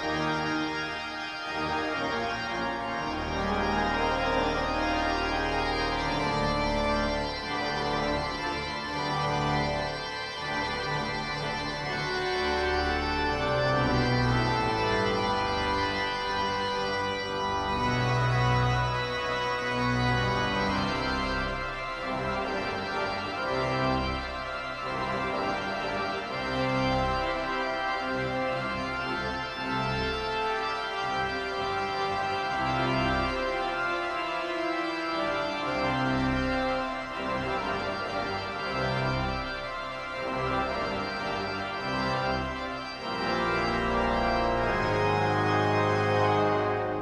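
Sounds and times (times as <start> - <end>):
pipe organ playing chords: 0.0 - 47.0.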